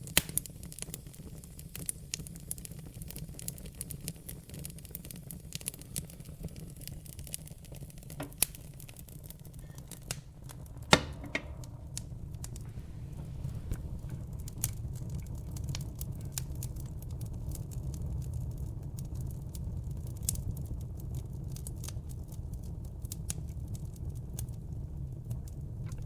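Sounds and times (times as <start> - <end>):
low rumble of fire: 0.0 - 26.0
wood fire crackling and popping: 0.0 - 26.0.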